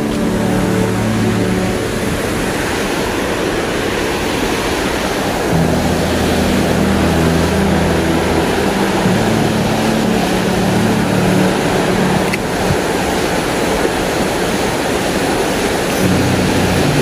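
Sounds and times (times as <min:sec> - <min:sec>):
low steady tones: 0:00.0 - 0:17.0
stream rushing over rocks: 0:00.0 - 0:17.0.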